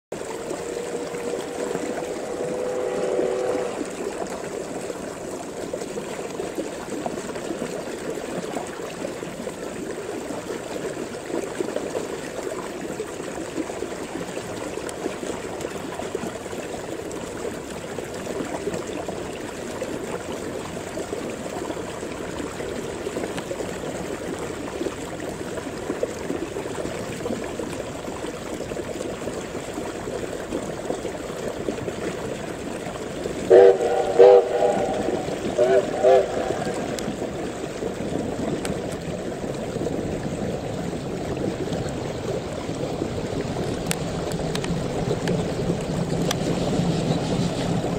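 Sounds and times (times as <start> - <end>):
flowing water rushing: 0.0 - 47.9.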